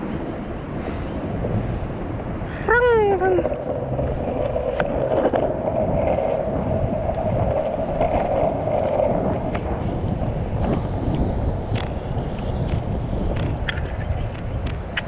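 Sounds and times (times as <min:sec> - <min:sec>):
wheels rolling over pavement: 0:00.0 - 0:15.0
wind on microphone: 0:00.0 - 0:15.0.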